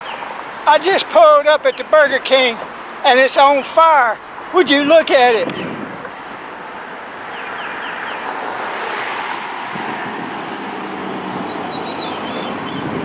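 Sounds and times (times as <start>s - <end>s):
road traffic: 0.0s - 13.0s
wind: 0.0s - 13.0s.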